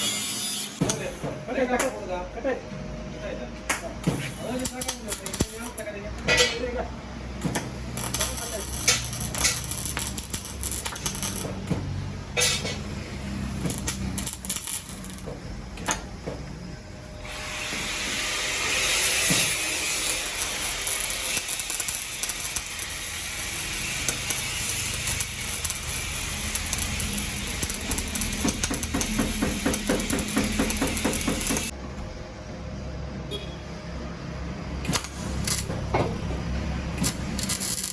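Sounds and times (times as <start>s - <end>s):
welding arc sizzling crackle: 0.0s - 1.2s, 4.2s - 31.8s, 34.7s - 37.9s.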